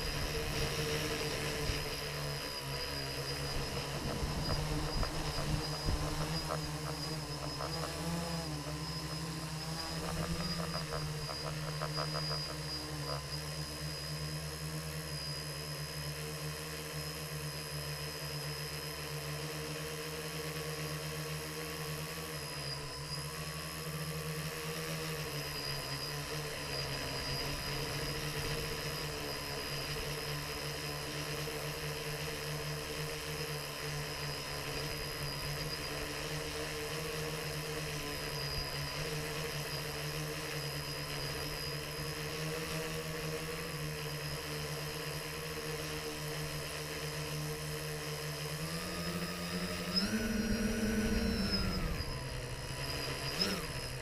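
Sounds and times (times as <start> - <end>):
drone propellers whirring: 0.0 - 54.0.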